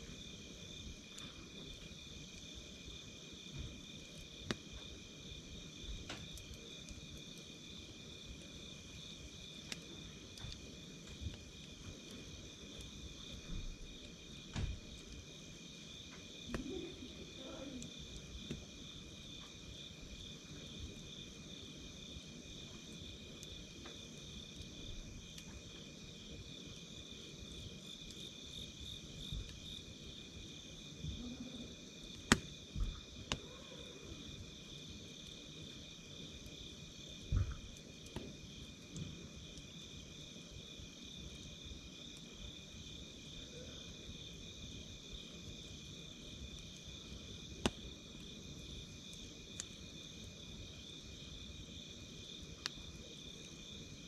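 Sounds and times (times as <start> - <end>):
wood fire crackling pops: 0.0 - 43.5, 44.2 - 54.0
night insects chirping: 0.0 - 54.0.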